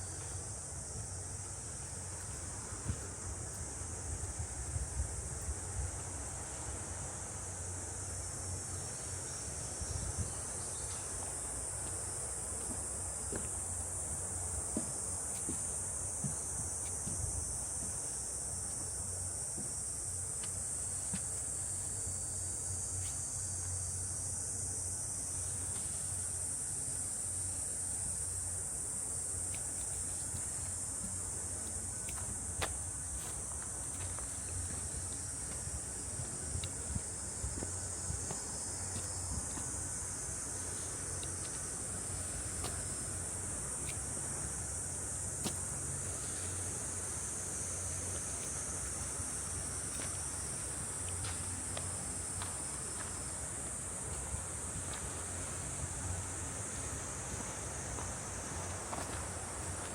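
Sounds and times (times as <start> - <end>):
cicadas chorus: 0.0 - 59.9.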